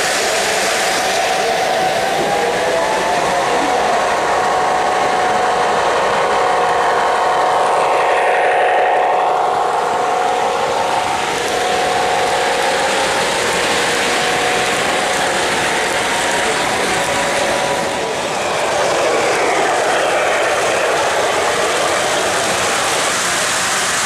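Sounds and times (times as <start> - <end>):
faint motor hum: 0.0 - 24.0.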